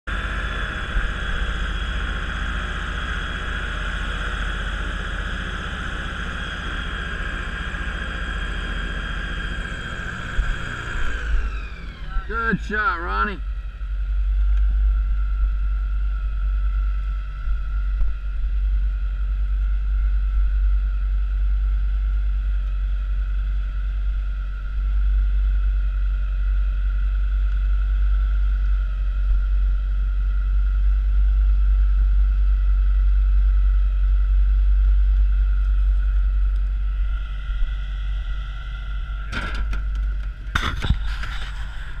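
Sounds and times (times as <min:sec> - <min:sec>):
airboat engine and propeller: 0:00.1 - 0:42.0.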